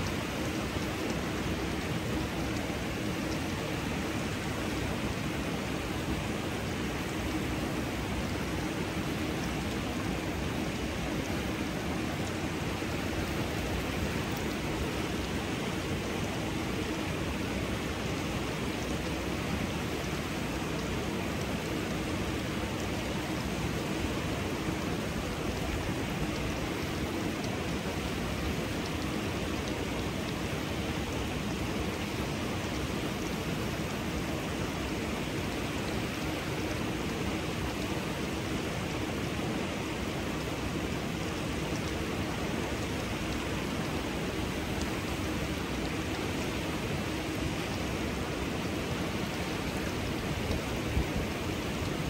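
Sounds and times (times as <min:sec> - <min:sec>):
small waterfall rushing: 0:00.0 - 0:52.0.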